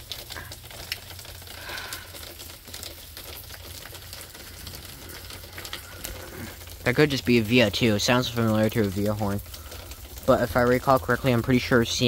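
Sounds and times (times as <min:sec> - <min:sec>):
rain falling: 0:00.0 - 0:12.0
close drops ticking: 0:00.2 - 0:12.0.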